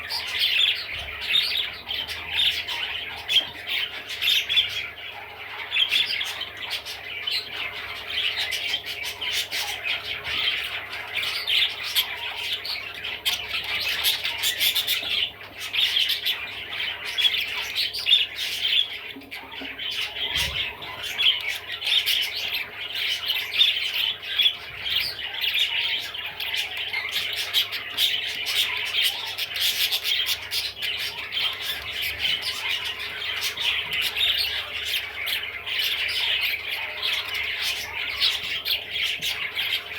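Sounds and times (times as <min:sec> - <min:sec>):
budgerigar chattering and warbling: 0:00.0 - 0:39.9.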